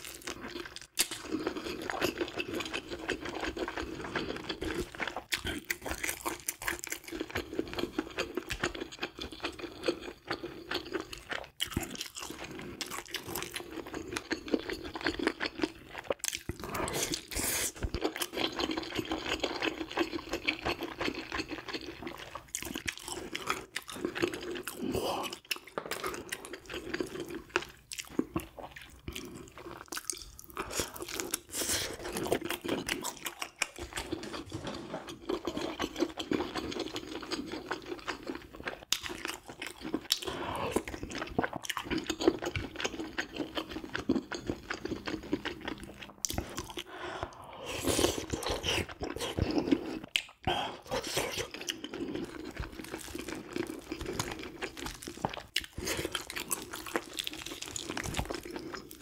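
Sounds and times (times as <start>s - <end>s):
chewing and crunching fish: 0.0s - 59.0s.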